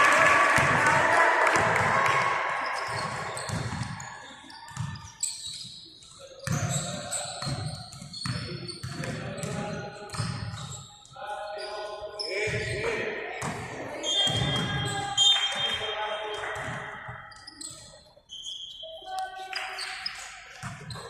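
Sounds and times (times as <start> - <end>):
sneakers squeaking: 2.5 - 21.0.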